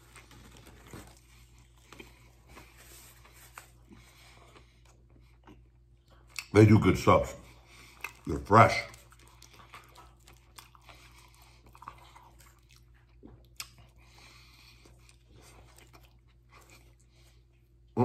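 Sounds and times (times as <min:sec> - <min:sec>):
man chewing sandwich: 0:00.0 - 0:18.0.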